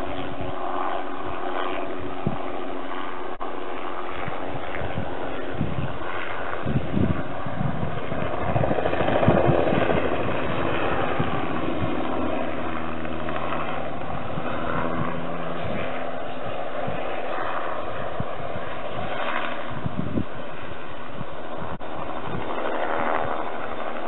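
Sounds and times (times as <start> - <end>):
helicopter flying low overhead: 0.0 - 24.0.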